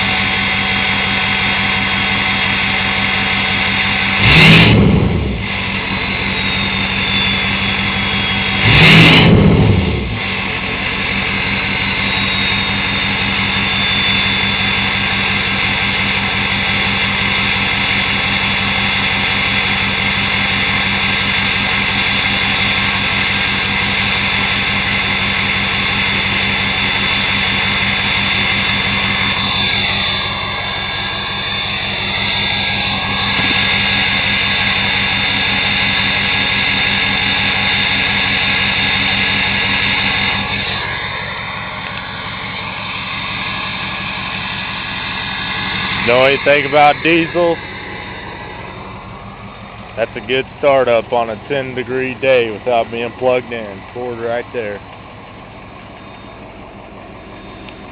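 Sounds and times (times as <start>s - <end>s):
engine revving: 0.0s - 54.9s
diesel engine idling: 0.0s - 57.9s.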